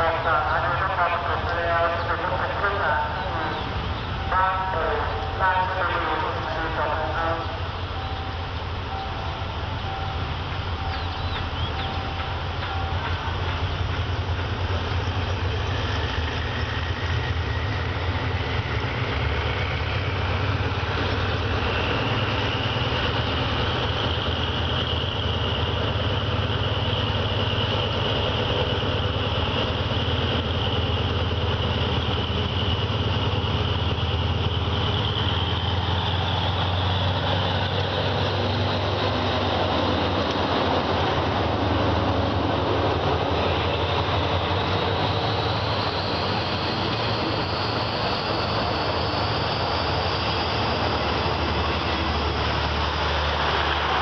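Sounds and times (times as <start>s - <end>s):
diesel locomotive engine drone: 0.0s - 54.0s
locomotive high whine: 0.0s - 54.0s.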